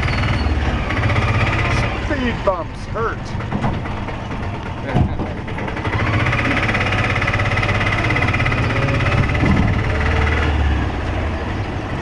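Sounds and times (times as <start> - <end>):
rattling auto-rickshaw engine: 0.0 - 12.0.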